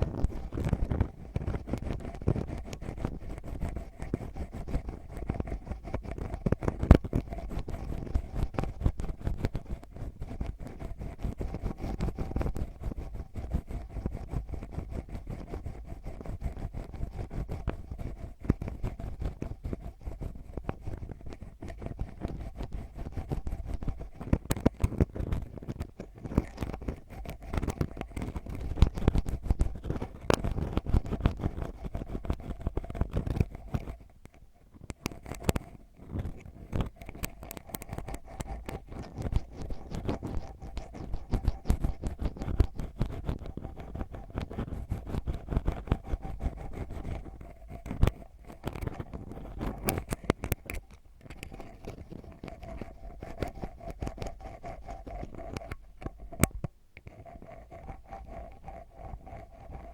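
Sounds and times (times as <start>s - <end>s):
ear pick scratching microphone: 0.0s - 59.9s.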